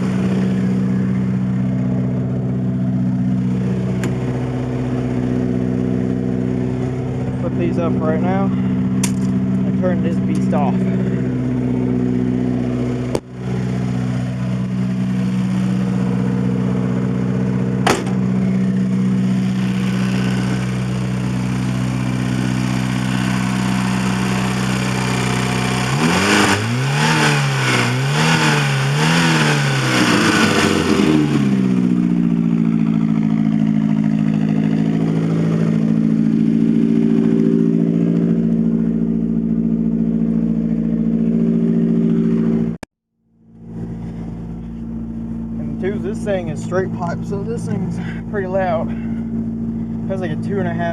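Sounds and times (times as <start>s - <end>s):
car engine idling and revving: 0.0s - 50.9s.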